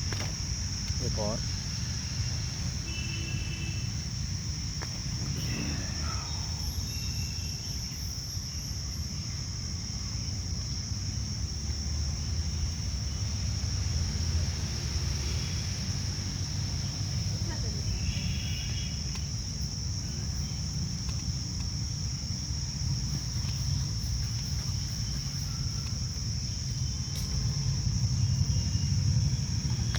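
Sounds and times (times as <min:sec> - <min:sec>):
cricket trill: 0:00.0 - 0:29.9
low background rumble: 0:00.0 - 0:29.9.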